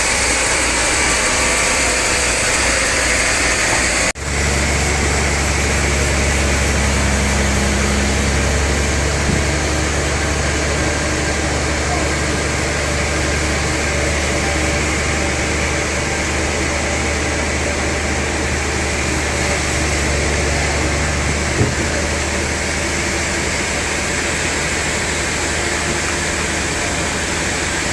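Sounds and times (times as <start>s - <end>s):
sawmill machinery humming: 0.0s - 27.9s.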